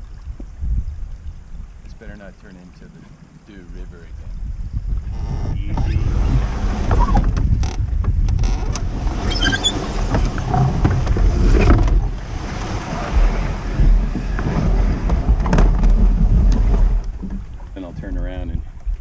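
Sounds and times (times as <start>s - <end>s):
water: 0.0s - 19.0s
wind rumble on microphone: 0.0s - 19.0s.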